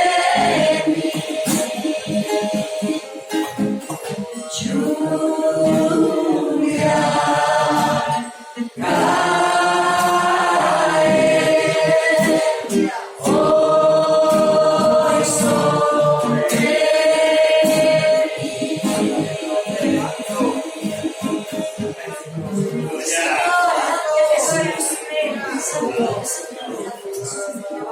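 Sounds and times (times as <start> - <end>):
choir singing: 0.0 - 26.2.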